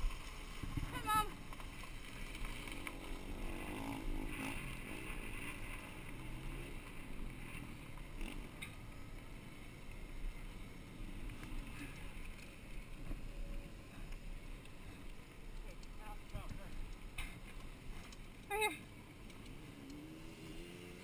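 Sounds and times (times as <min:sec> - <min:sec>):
bike tyres on gravel: 0:00.0 - 0:19.8
bike rattling: 0:00.0 - 0:21.0.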